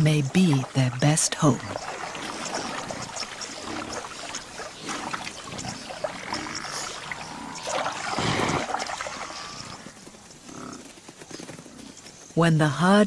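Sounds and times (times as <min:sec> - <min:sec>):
hooves squelching in mud: 0:00.0 - 0:12.4.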